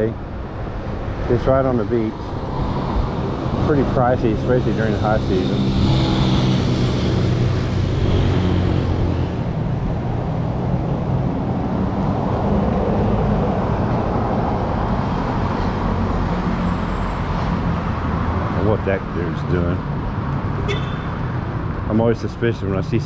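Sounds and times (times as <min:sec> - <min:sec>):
tyre and road noise: 0:00.0 - 0:23.0
vehicle engines passing: 0:00.0 - 0:23.0.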